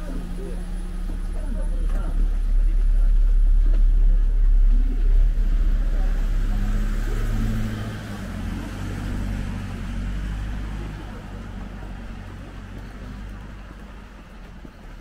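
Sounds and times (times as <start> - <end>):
faint voices: 0.0 - 15.0
vehicle engine rumbling: 0.0 - 15.0.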